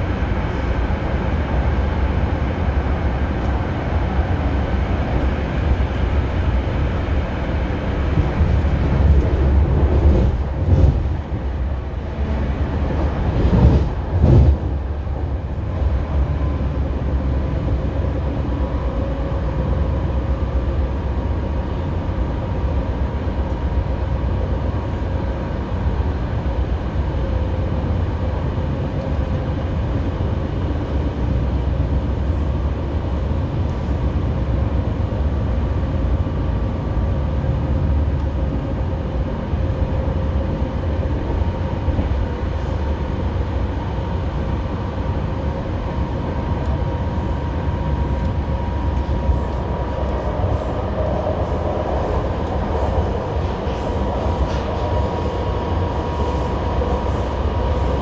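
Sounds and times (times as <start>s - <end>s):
train wheels rumbling on rail: 0.0s - 58.0s
train whine: 0.0s - 58.0s.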